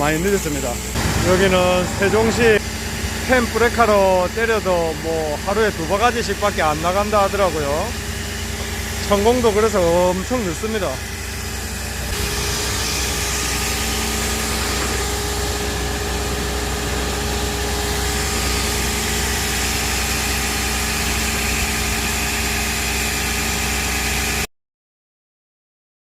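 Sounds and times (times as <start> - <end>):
machinery hiss: 0.0 - 22.8
engine running steadily: 0.0 - 24.5.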